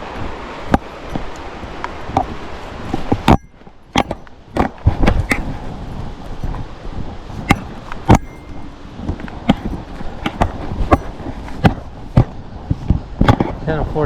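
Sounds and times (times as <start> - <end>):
knocks and scrapes: 2.1 - 13.8
rustling brush: 2.4 - 14.0.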